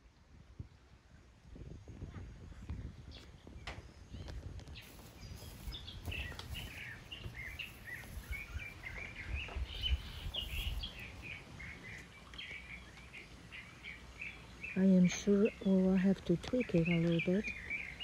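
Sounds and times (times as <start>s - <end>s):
small birds chirping: 1.6s - 18.0s.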